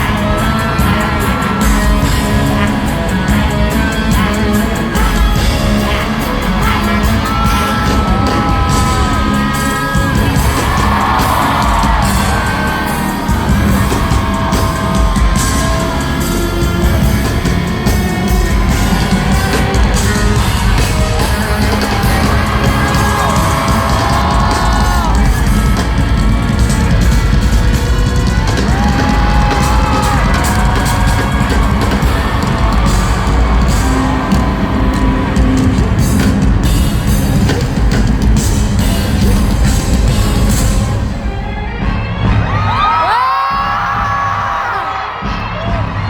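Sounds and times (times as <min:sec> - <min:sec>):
crowd yelling and singing: 0:00.0 - 0:46.0
loud concert music over pa: 0:00.0 - 0:46.0.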